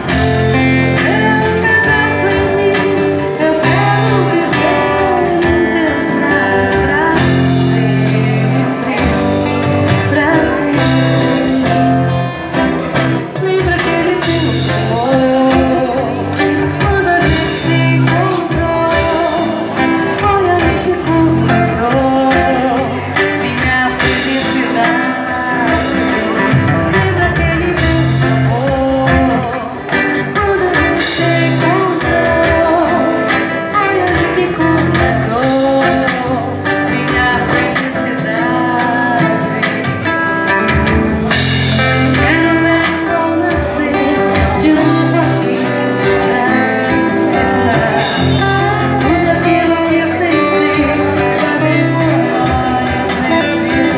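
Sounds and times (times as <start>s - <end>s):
woman singing: 0.0s - 12.4s, 13.2s - 41.0s, 41.8s - 53.9s
drums: 0.0s - 53.9s
strummed acoustic guitars: 0.0s - 53.9s.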